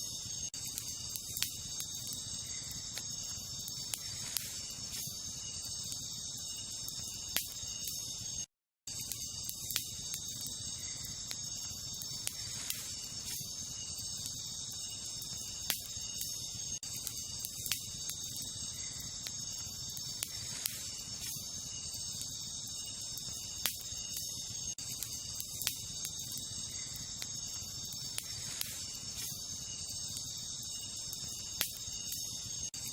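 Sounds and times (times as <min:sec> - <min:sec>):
insects chorus: 0:00.0 - 0:32.9
campfire crackling: 0:00.1 - 0:32.9.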